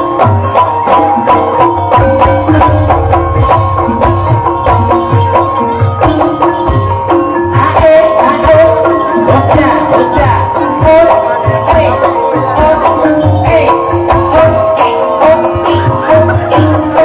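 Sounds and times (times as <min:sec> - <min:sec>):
hand drums: 0:00.0 - 0:17.0
struck tuned percussion: 0:00.0 - 0:17.0.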